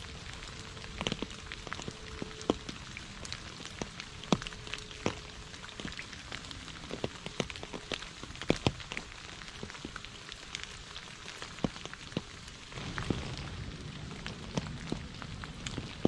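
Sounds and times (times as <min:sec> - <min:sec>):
rain patter on leaves: 0:00.0 - 0:16.0
raindrops plinking in puddle: 0:00.0 - 0:16.0.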